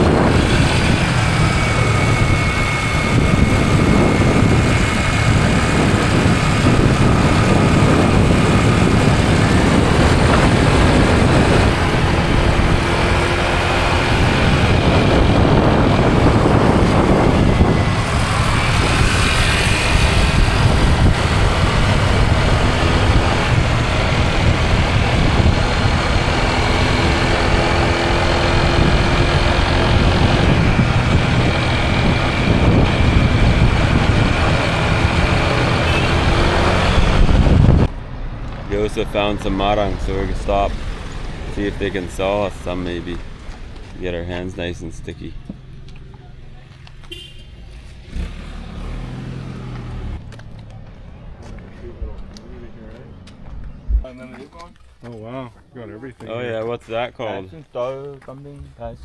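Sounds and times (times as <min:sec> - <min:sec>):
vehicle engine running: 0:00.0 - 0:55.2
road noise: 0:00.0 - 0:59.0.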